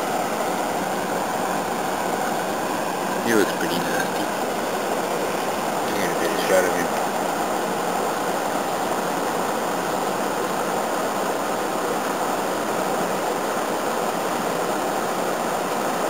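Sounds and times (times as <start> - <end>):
air conditioner fan whooshing: 0.0 - 16.0.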